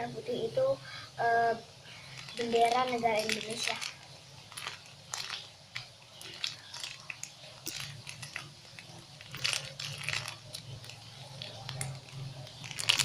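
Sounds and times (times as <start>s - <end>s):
foam toy crackling when squeezed: 2.1s - 13.0s.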